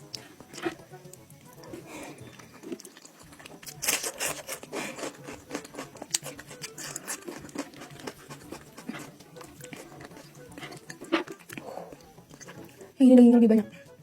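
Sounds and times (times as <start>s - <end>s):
meat being pulled apart and chewed: 0.0s - 12.9s.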